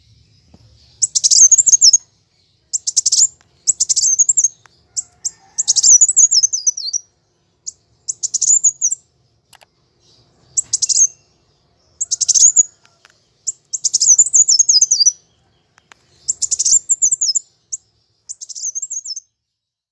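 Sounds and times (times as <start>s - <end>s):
bird chirping twitters: 0.0s - 19.4s.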